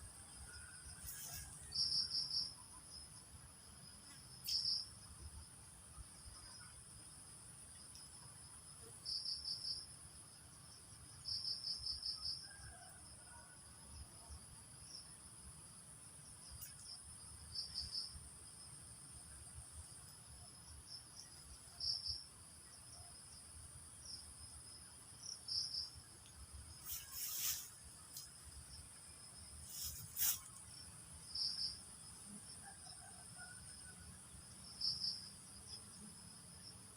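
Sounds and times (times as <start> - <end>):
high continuous insect trill: 0.0 - 36.9
rapid cricket chirps: 0.0 - 36.9.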